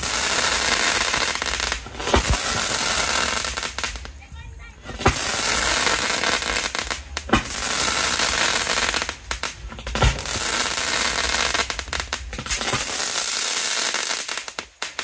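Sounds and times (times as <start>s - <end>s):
firecrackers crackling: 0.0s - 15.0s
sharp firecracker bangs: 0.0s - 15.0s.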